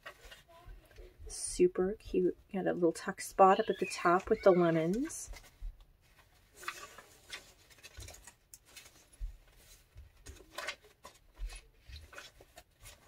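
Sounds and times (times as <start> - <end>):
paper rustling: 0.0 - 1.1, 3.5 - 13.0.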